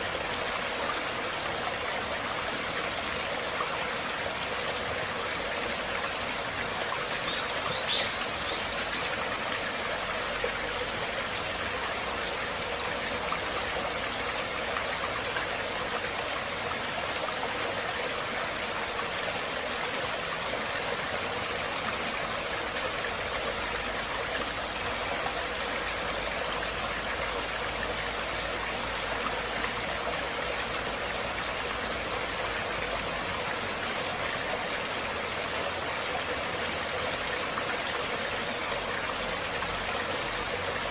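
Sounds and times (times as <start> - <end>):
stream running water: 0.0 - 40.9.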